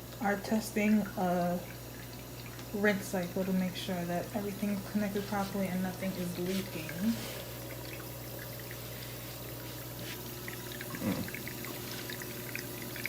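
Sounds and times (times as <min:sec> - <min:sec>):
steady low hum: 0:00.0 - 0:13.0
water splashing in dishwasher: 0:00.0 - 0:13.0.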